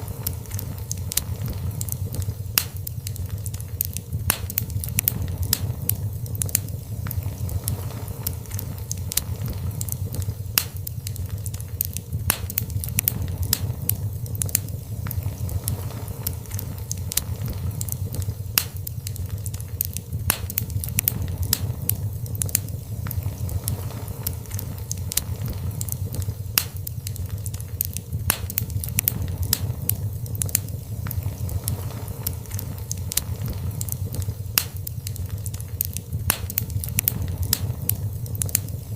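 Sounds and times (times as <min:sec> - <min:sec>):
fire crackling and popping: 0:00.0 - 0:38.9
fire flames rumbling: 0:00.0 - 0:38.9.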